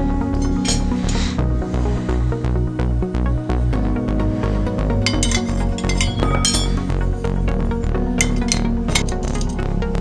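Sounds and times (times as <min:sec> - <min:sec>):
background music with plucked notes: 0:00.0 - 0:10.0.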